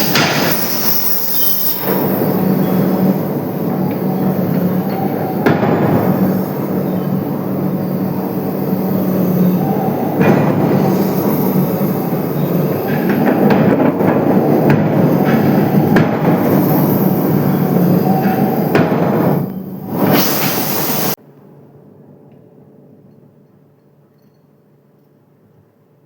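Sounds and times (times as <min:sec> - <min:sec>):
steady machine hum: 0:00.0 - 0:21.2.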